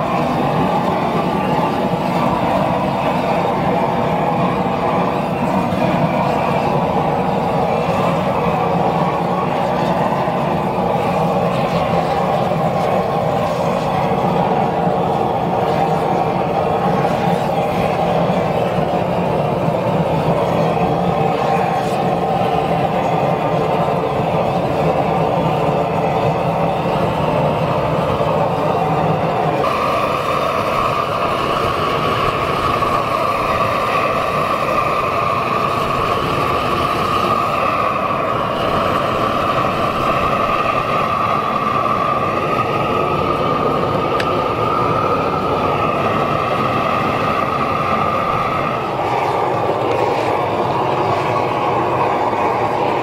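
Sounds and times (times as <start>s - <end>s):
propane torch burning: 0.0s - 53.0s.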